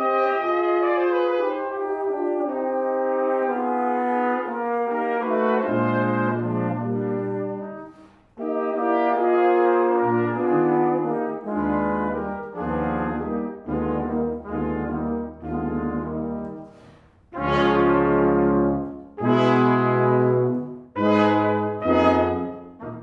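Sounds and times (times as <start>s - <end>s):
brass quintet playing chords: 0.0s - 23.0s.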